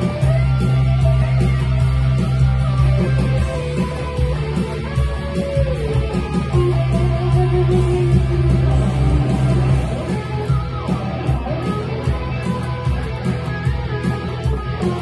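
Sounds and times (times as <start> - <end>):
electric guitar lead line: 0.0 - 15.0.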